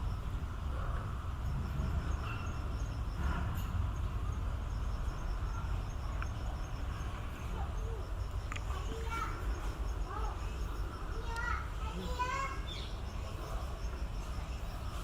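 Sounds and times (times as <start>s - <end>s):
insect chirping: 0.0s - 15.0s
low background rumble: 0.0s - 15.0s.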